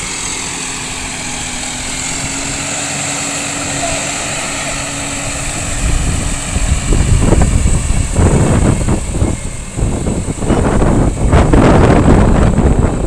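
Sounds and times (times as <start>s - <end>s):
tractor engine rumbling: 0.0s - 13.0s.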